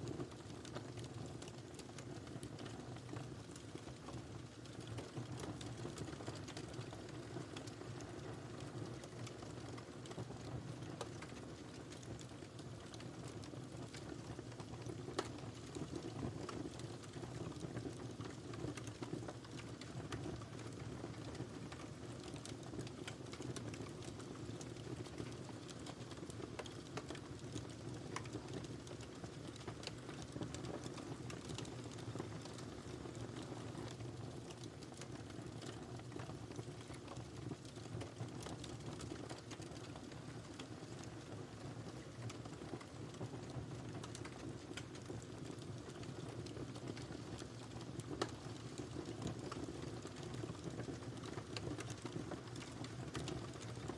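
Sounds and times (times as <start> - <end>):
fire crackling and popping: 0.0 - 53.9
low rumble of flames: 0.0 - 53.9.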